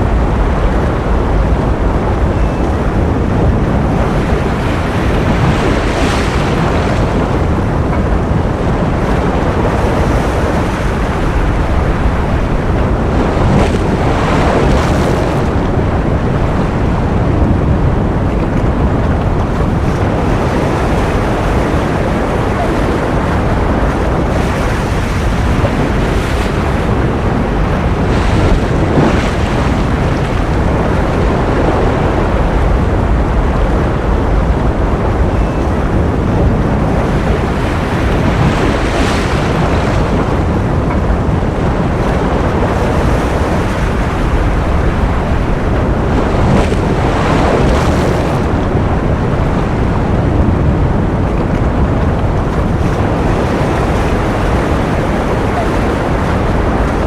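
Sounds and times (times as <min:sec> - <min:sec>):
ocean surf: 0:00.0 - 0:57.0.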